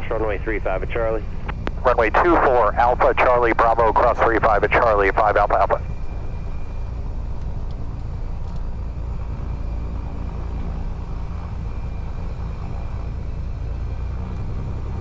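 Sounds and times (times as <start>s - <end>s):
aircraft engine and propeller droning: 0.0s - 15.0s.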